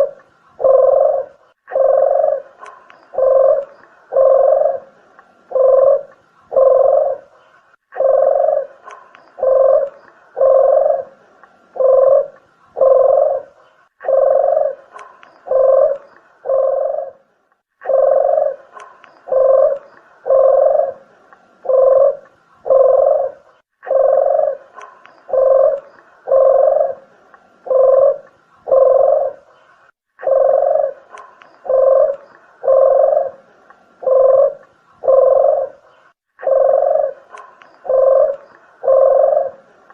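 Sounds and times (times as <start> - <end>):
dove cooing: 0.0 - 29.6, 30.2 - 39.9.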